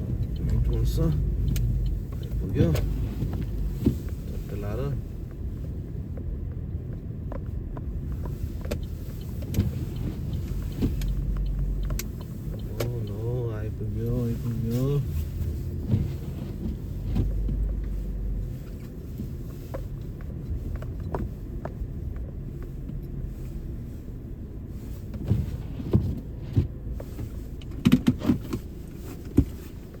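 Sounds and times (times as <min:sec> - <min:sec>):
car engine and cabin rumble: 0:00.0 - 0:30.0.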